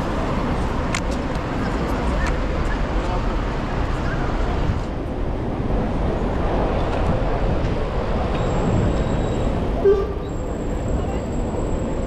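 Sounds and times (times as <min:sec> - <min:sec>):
street traffic noise: 0:00.0 - 0:12.0
wind rumble on microphone: 0:00.0 - 0:12.0.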